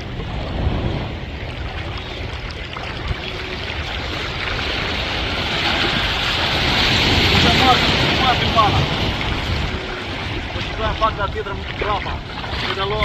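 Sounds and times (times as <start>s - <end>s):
small waves washing: 0.0s - 13.0s
wind buffeting microphone: 0.0s - 13.0s.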